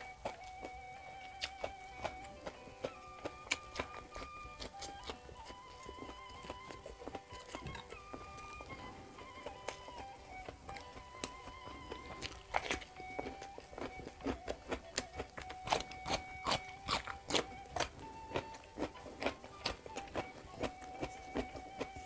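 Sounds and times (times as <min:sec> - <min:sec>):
chewing crunchy vegetables: 0:00.0 - 0:22.0
soft background music: 0:00.0 - 0:22.0.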